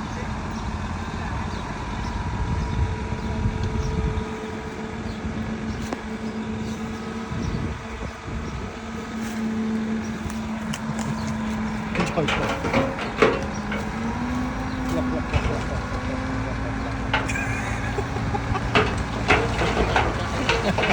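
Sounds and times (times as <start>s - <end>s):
diesel engine rumbling: 0.0s - 20.9s.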